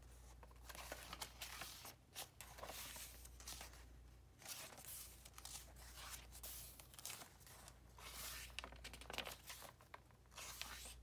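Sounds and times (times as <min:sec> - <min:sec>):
paper pages rustling: 0:00.1 - 0:11.0.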